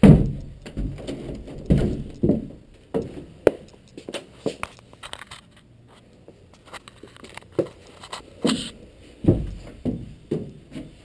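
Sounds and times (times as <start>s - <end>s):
footsteps with knocks and scrapes: 0.0s - 11.0s.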